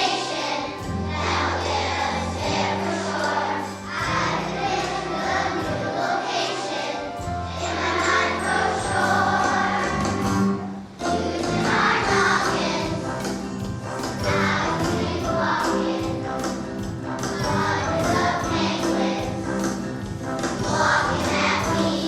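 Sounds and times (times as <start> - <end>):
children's choir singing: 0.0 - 22.0
instrumental accompaniment: 0.0 - 22.0.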